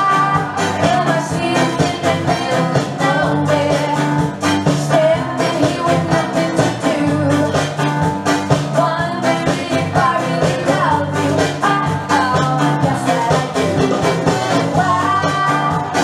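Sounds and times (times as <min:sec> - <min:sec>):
person singing: 0:00.0 - 0:16.0
steady beat: 0:00.0 - 0:16.0.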